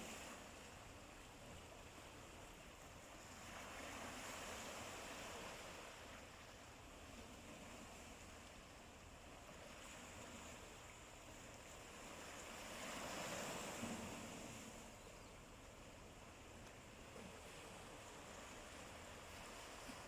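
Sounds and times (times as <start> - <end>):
faint sea waves on shore: 0.0 - 20.0.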